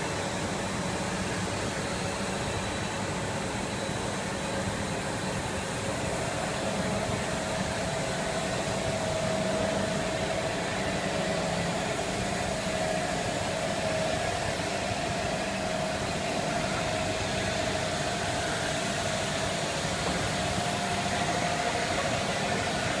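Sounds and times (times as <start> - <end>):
machine hiss and hum: 0.0 - 23.0
wavering mid-pitched whine: 0.0 - 23.0.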